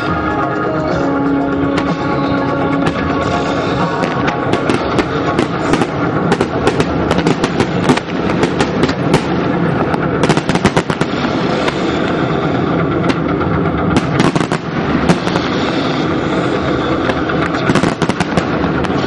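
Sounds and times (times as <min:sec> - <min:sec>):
fireworks crackle: 0:00.0 - 0:19.0
fireworks bangs: 0:00.9 - 0:19.0.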